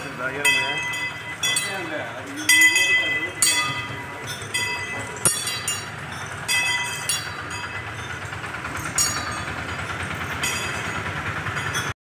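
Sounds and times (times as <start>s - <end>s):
low street rumble: 0.0s - 12.0s
metal bells clanking: 0.0s - 12.0s.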